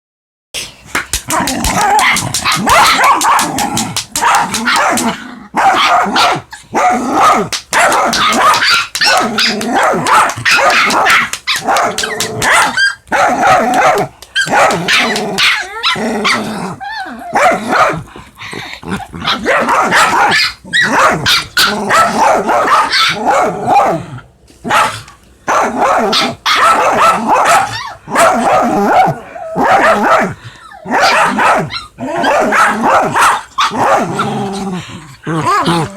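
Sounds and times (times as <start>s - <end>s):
dogs growling and barking: 1.0s - 35.9s.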